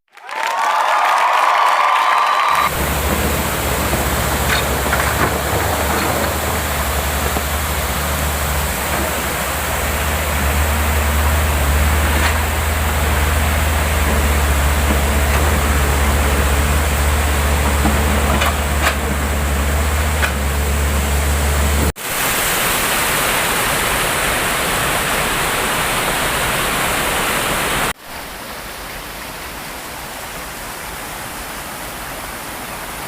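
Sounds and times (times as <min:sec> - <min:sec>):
water rushing over spillway: 0:01.4 - 0:33.0.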